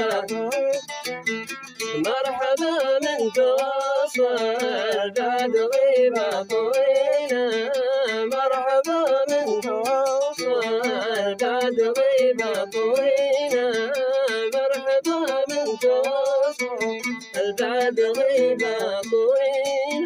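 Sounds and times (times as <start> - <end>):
man singing melismatic notes: 0.0 - 20.0.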